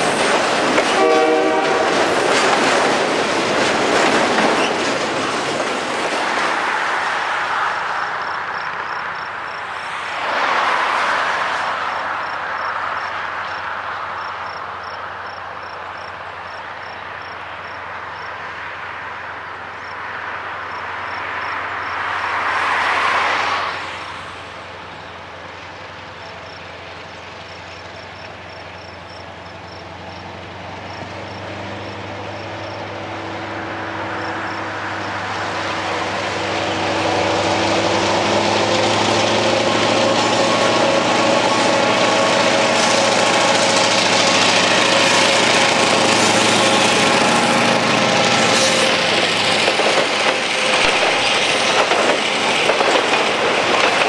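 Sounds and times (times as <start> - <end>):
diesel locomotive engine drone: 0.0 - 54.0
train wheel and rail noise: 0.0 - 54.0.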